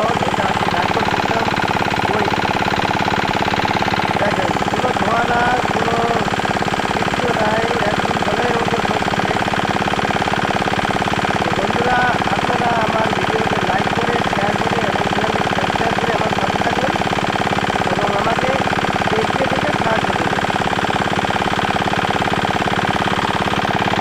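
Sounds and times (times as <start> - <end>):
single-cylinder diesel engine running: 0.0 - 24.0.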